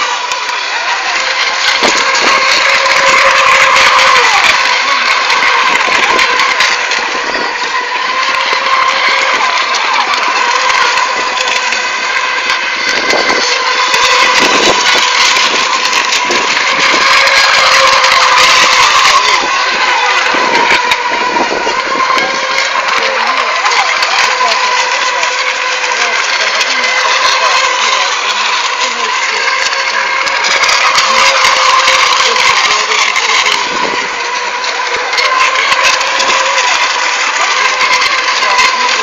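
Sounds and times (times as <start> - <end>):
rc boat motors whining: 0.0 - 39.0.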